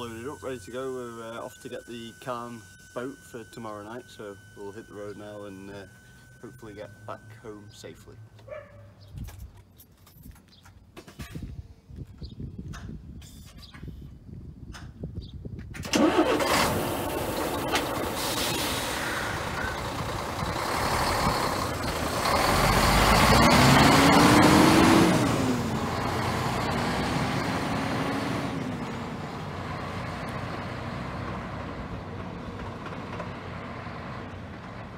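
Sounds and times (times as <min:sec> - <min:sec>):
truck engine and tyre noise: 0:00.0 - 0:11.2, 0:15.5 - 0:34.9.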